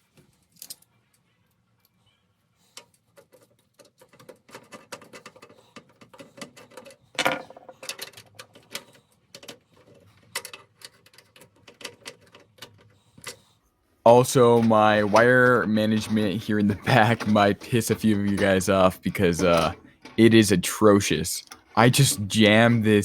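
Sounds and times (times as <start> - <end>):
hands handling computer parts: 2.7 - 23.0.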